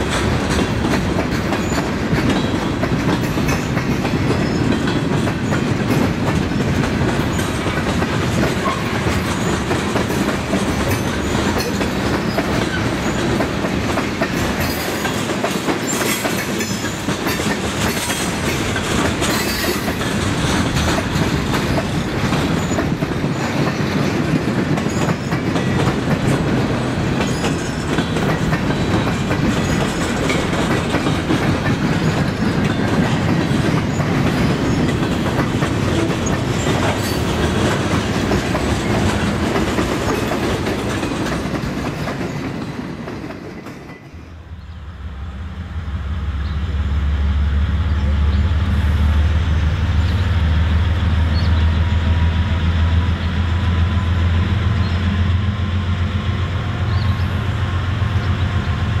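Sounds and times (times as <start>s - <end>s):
freight train wheels clicking on rails: 0.0s - 59.0s.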